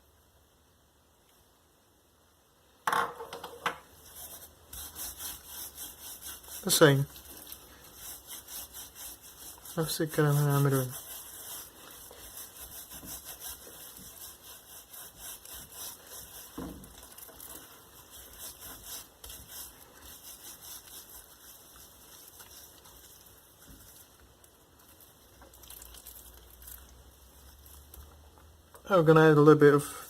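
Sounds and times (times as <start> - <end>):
gloved hands rubbing steak: 3.9 - 28.2.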